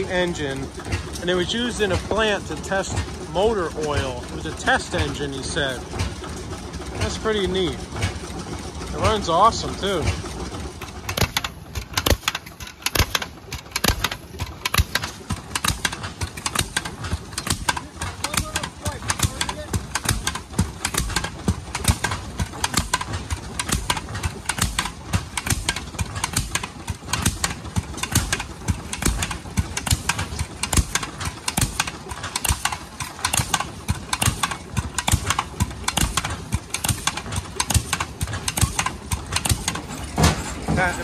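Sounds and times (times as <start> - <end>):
earth rammer pounding ground: 0.0 - 41.0.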